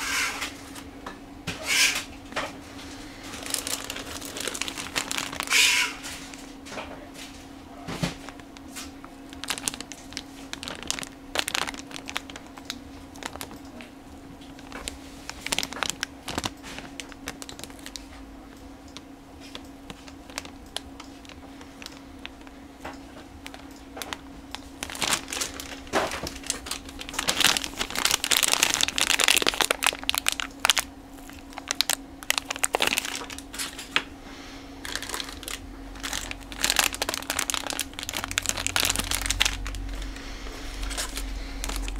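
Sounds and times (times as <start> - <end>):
faint steady hum: 0.0 - 41.9
plastic bags crinkling: 1.8 - 34.1, 34.8 - 41.9.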